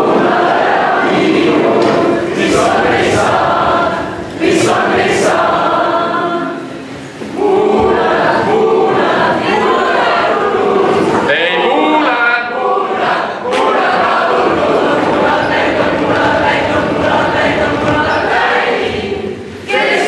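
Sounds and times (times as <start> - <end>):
group of teenagers singing: 0.0 - 20.0.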